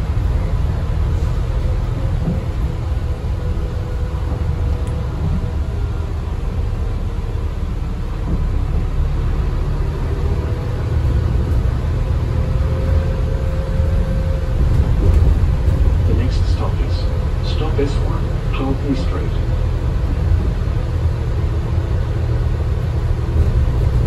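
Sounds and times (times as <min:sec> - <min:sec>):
bus cabin rumble: 0:00.0 - 0:24.0.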